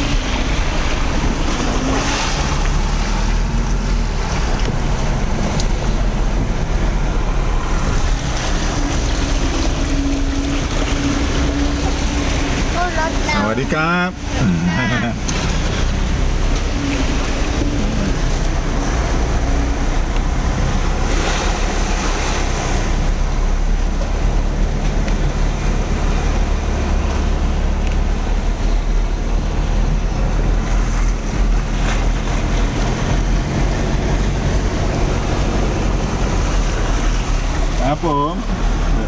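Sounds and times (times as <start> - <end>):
vehicle engine running: 0.0 - 39.0
water rushing and washing: 0.0 - 39.0.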